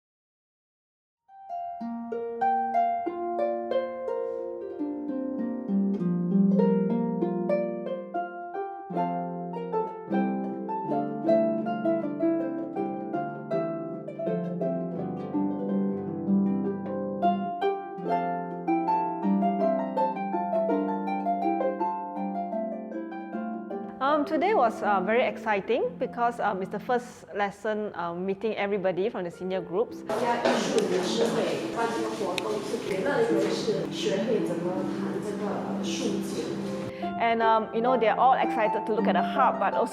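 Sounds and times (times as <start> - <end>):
harp playing: 1.3 - 26.8, 29.3 - 39.9.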